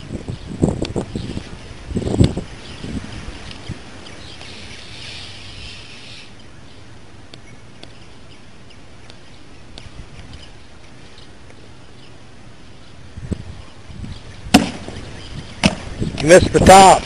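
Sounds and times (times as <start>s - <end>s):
steady hiss: 0.0s - 17.0s
bird chirps: 2.6s - 16.6s.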